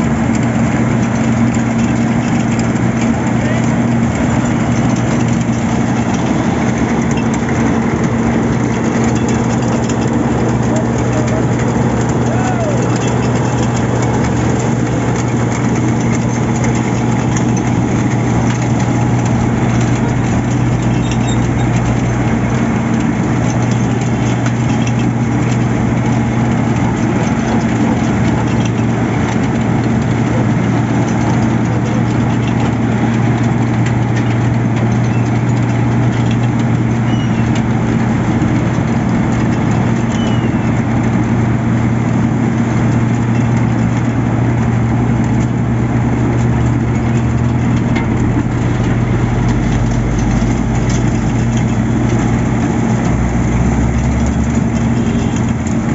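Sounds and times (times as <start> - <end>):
construction machine engine running: 0.0 - 55.9.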